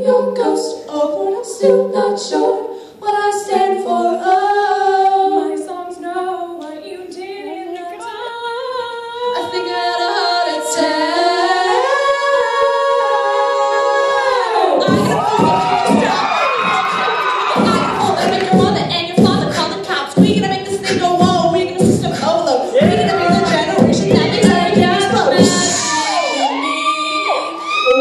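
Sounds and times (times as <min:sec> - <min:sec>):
a cappella group singing in harmony: 0:00.0 - 0:28.0.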